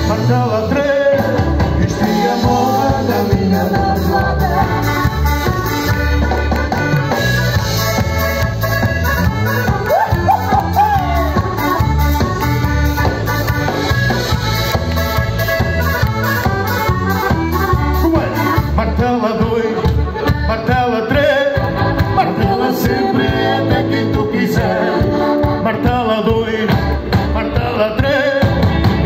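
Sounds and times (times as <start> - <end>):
accordion: 0.0 - 29.0
drums: 0.0 - 29.0
electric bass: 0.0 - 29.0
electric guitar: 0.0 - 29.0.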